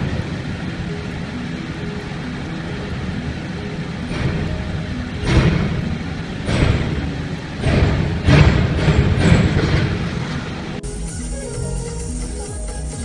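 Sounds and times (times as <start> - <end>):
lorry engine rumbling: 0.0 - 13.0.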